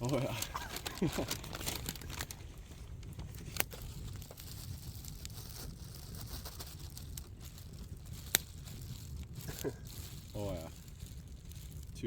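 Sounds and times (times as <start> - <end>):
plastic packaging crinkling: 0.0 - 12.0
wind rumble on microphone: 0.0 - 12.0.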